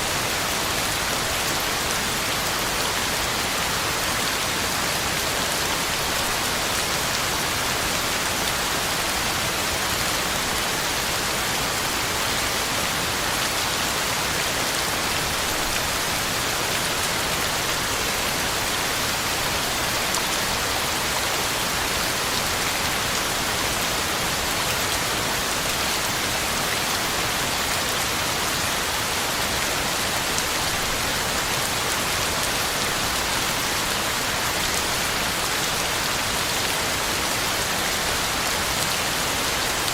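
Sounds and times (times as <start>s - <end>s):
heavy rain on ground and leaves: 0.0s - 39.9s.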